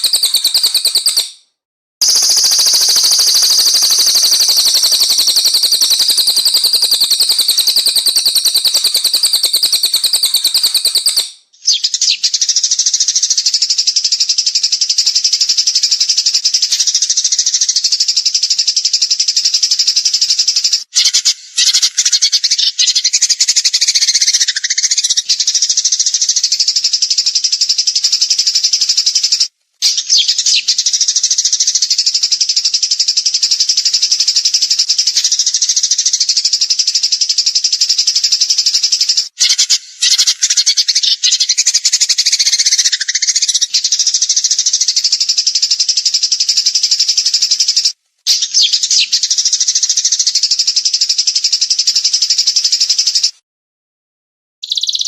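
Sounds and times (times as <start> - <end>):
songbird trilling: 0.0 - 1.4, 2.0 - 53.3, 54.6 - 55.0.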